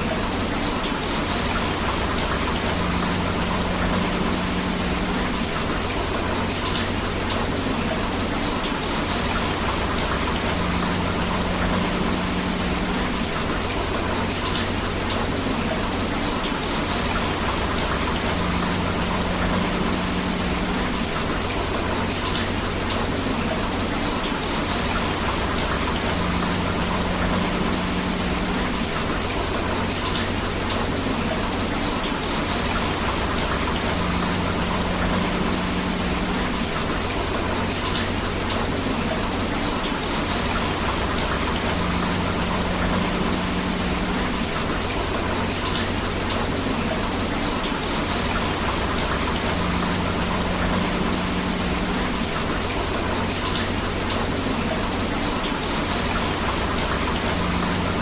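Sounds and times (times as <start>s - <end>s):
rushing river water: 0.0s - 58.0s
steady rain: 0.0s - 58.0s.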